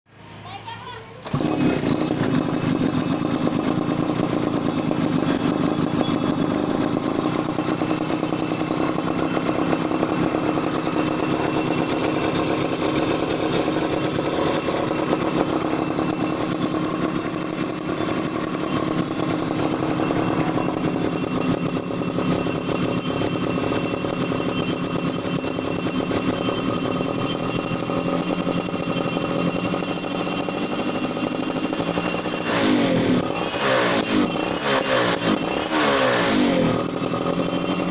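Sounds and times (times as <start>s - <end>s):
two-stroke motorcycle engine running: 1.2s - 37.9s.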